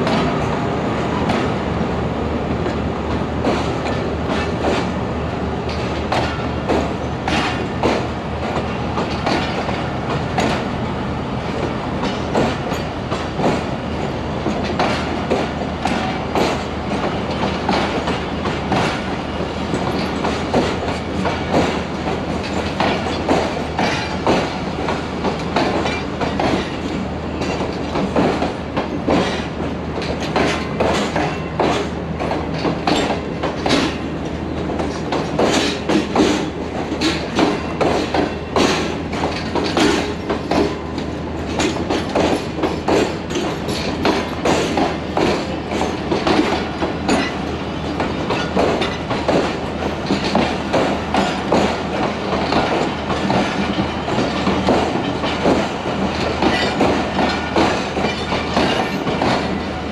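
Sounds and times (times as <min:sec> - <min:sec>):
train wheels clattering over rail joints: 0:00.0 - 0:01.6, 0:02.6 - 0:59.9
continuous train rumble: 0:00.0 - 0:59.9.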